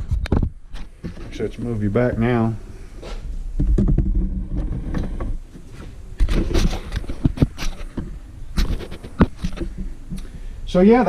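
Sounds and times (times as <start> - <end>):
low rumbling rub: 0.8 - 10.1.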